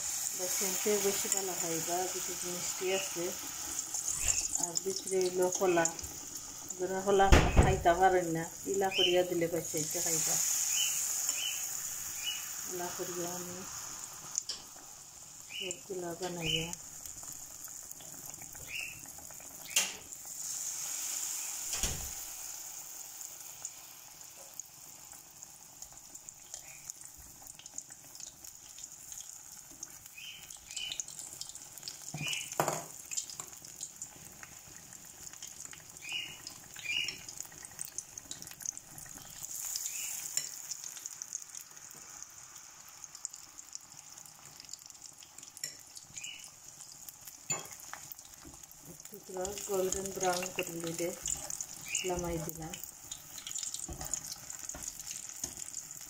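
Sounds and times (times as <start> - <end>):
deep-frying sizzle in oil: 0.0 - 56.0.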